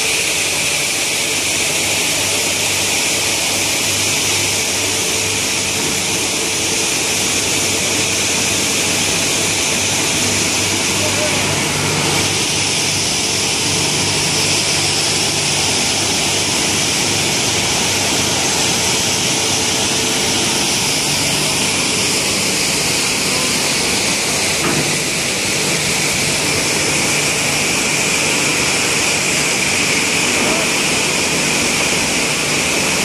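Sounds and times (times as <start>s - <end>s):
stone processing machinery running: 0.0s - 33.0s.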